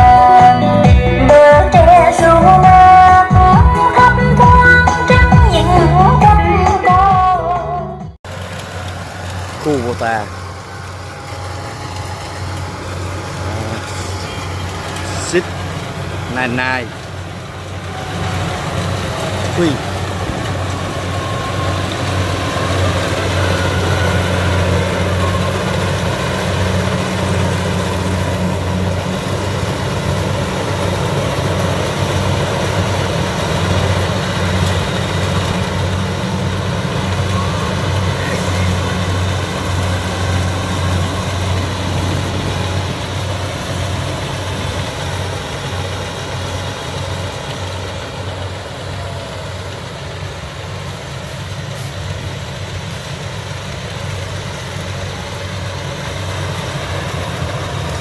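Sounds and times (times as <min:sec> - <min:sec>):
diesel engine hum: 0:00.0 - 0:58.0
machinery clatter: 0:08.3 - 0:58.0.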